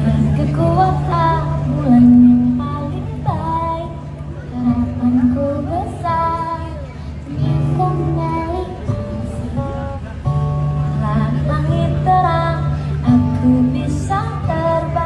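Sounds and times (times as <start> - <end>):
girl and woman singing: 0.0 - 9.6, 11.0 - 15.0
acoustic guitar: 0.0 - 15.0.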